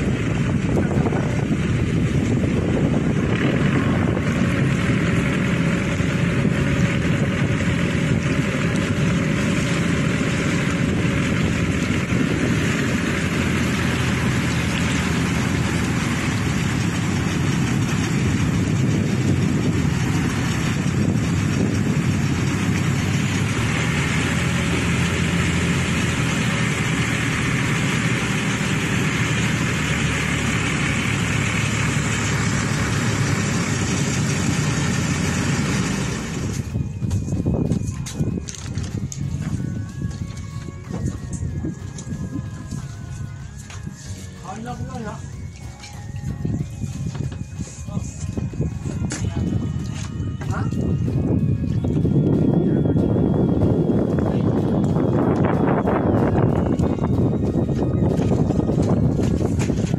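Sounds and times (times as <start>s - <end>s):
boat engine running: 0.0s - 59.9s
wind: 0.0s - 59.9s.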